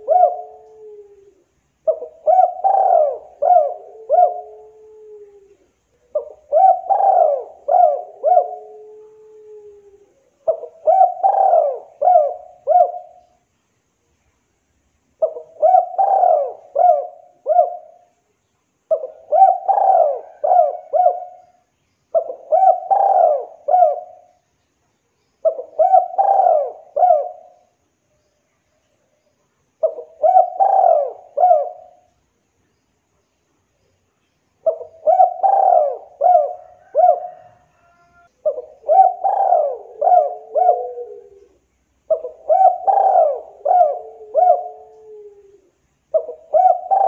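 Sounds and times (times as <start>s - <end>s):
dove cooing: 0.0s - 13.4s, 15.2s - 18.1s, 18.9s - 24.4s, 25.4s - 27.8s, 29.8s - 32.2s, 34.6s - 47.0s.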